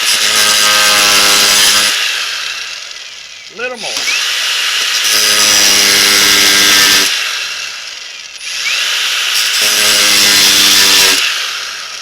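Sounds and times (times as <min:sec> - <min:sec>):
high grinding hiss: 0:00.0 - 0:12.0
power tool motor whine: 0:00.0 - 0:12.0.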